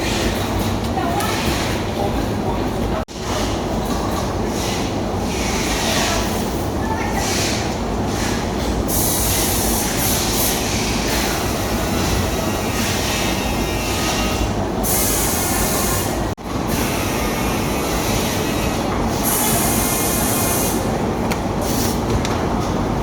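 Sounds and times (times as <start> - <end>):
mechanical rumble with hiss: 1.4 - 23.0.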